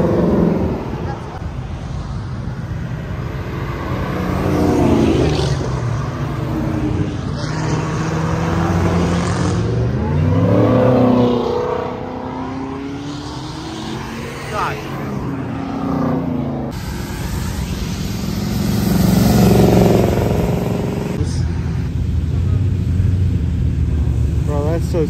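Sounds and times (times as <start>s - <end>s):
cars and trucks driving past: 0.0s - 25.0s.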